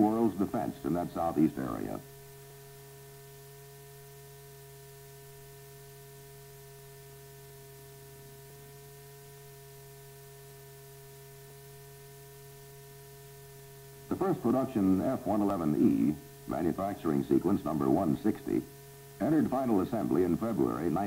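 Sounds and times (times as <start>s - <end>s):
faint high steady tones: 0.0s - 21.0s
soft hiss: 0.0s - 21.0s
steady electrical hum: 0.0s - 21.0s.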